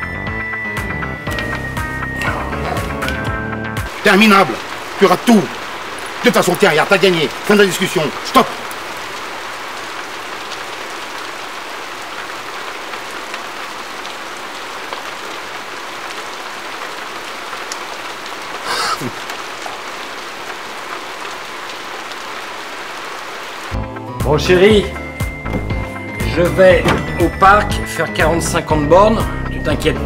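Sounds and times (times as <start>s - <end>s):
rain on wet pavement: 0.8s - 30.0s.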